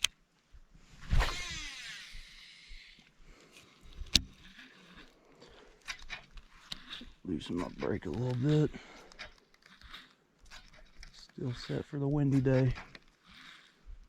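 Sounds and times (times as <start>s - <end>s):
fishing reel spool whirring: 1.1s - 14.0s.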